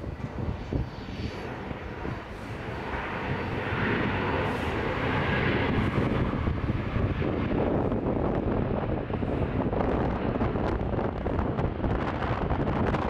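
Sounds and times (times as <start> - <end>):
jet engines: 0.0 - 13.0.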